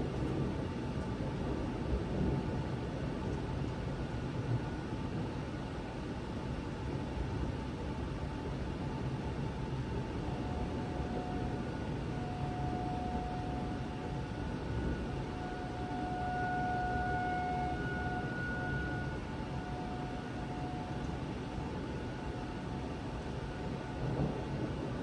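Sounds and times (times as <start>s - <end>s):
distant tornado warning siren: 0.0s - 25.0s.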